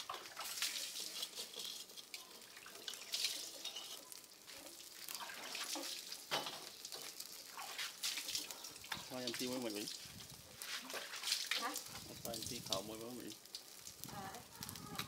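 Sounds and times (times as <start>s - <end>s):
fish sizzling on a grill: 0.0s - 15.0s.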